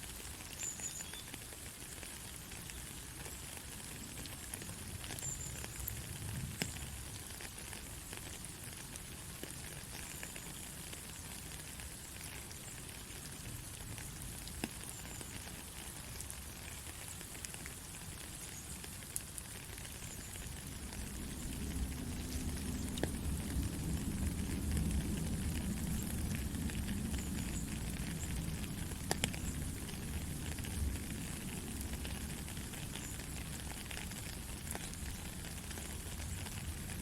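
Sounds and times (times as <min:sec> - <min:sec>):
raindrops ticking: 0:00.0 - 0:37.0
soft rain hiss: 0:00.0 - 0:37.0.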